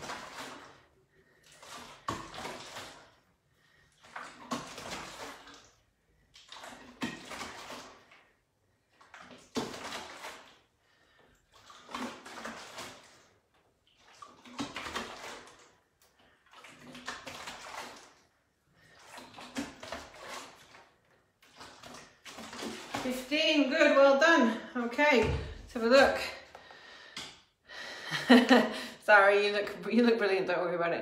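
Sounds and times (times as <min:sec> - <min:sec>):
liquid sloshing in plastic container: 0:00.0 - 0:27.6.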